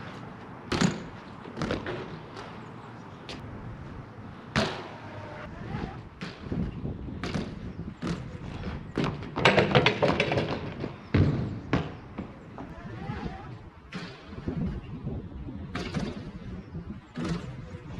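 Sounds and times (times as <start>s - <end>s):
bike rattling: 0.0s - 17.9s
bike tyres rolling on concrete: 0.0s - 17.9s.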